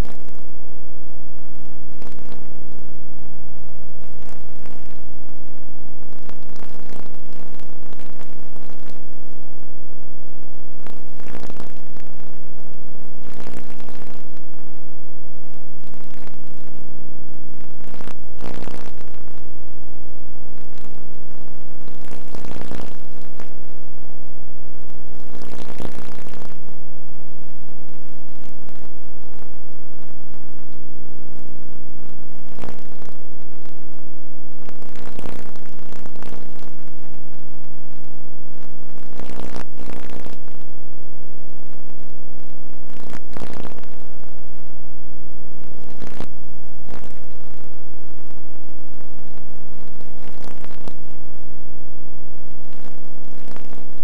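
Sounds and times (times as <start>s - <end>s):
loud buzzing hum: 0.0s - 54.0s.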